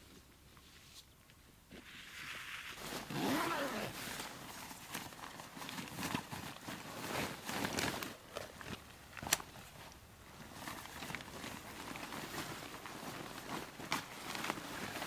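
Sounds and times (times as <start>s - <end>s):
fabric rustling and crinkling: 0.0s - 15.0s.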